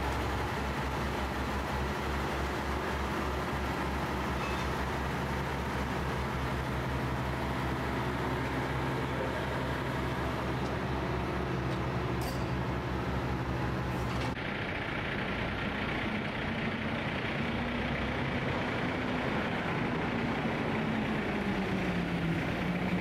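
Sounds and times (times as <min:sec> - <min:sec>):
diesel engine idling: 0:00.0 - 0:23.0
street traffic hum: 0:00.0 - 0:23.0.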